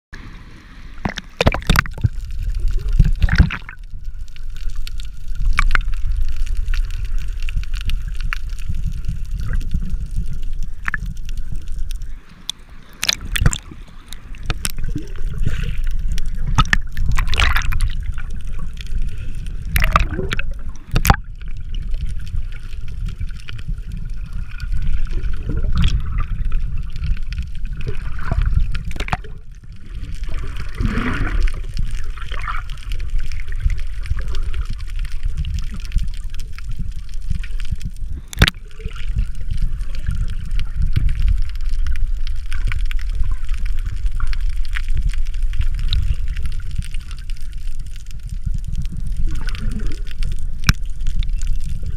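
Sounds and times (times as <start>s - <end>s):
water sloshing and gurgling: 0.2s - 51.9s.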